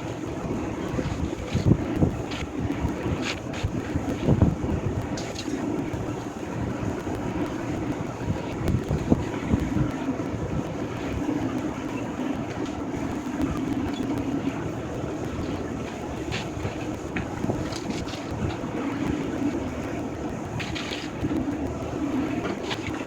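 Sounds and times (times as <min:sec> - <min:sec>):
demolition machinery running: 0:00.0 - 0:10.0, 0:11.5 - 0:23.0
wind on microphone: 0:00.0 - 0:23.0.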